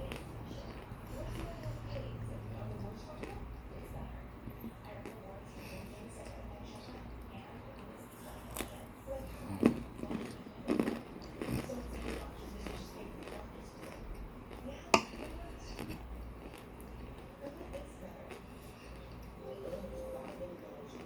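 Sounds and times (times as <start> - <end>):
crunchy food chewing: 0.0 - 21.0.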